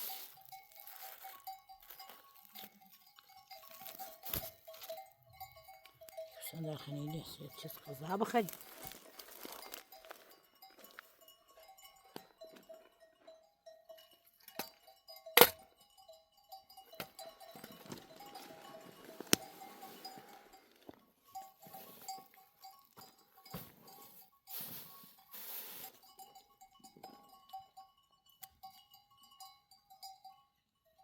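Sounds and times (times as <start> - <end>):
sheep bells clinking: 0.0 - 31.0.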